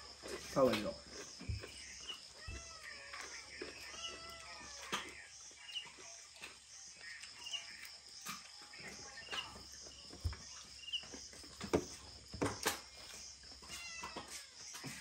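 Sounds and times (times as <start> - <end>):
clicks of people eating: 0.0 - 15.0
insects chirring: 0.0 - 15.0.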